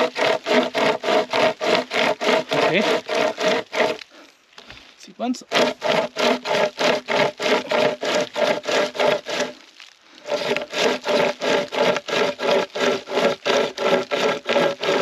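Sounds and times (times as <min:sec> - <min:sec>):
chain saw rasping through wood: 0:00.0 - 0:04.2, 0:05.4 - 0:09.6, 0:10.2 - 0:15.0.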